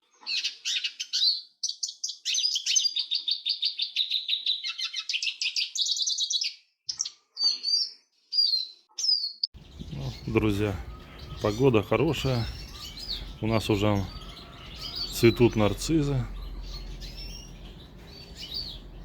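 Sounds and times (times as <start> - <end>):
songbird twittering song: 0.0 - 19.0
short bird calls: 2.0 - 19.0.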